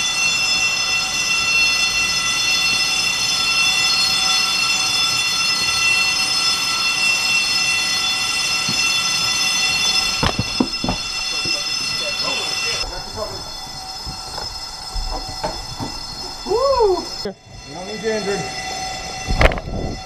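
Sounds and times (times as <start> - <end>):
subway train running whine: 0.0 - 20.0.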